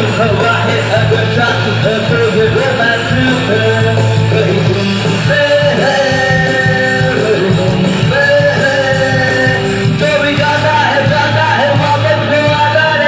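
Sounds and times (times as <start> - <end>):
bass guitar: 0.0 - 13.0
drums: 0.0 - 13.0
electric guitars: 0.0 - 13.0
person singing long held notes: 0.0 - 13.0.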